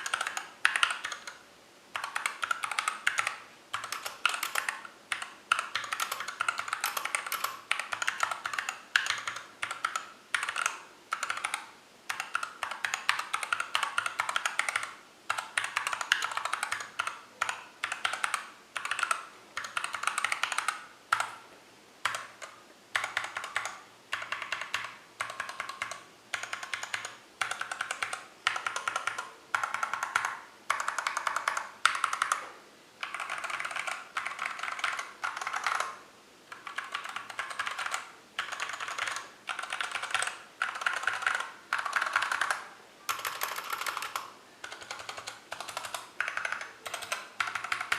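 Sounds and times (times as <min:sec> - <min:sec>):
mechanical keyboard typing: 0:00.0 - 0:01.4, 0:02.0 - 0:21.4, 0:22.0 - 0:47.9.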